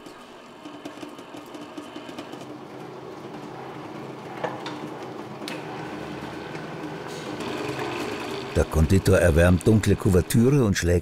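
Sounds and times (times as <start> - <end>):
stand mixer motor hum: 0.0 - 10.6.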